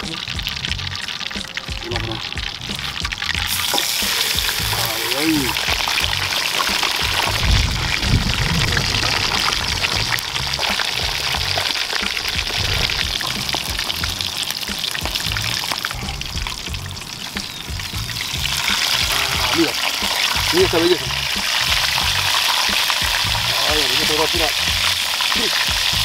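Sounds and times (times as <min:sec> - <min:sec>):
background music with bass: 0:00.0 - 0:26.0
fish deep-frying in oil: 0:00.0 - 0:26.0.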